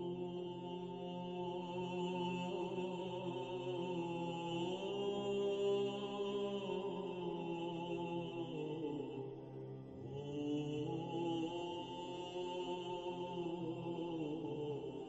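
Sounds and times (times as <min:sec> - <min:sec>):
slow chant with held notes: 0:00.0 - 0:15.0.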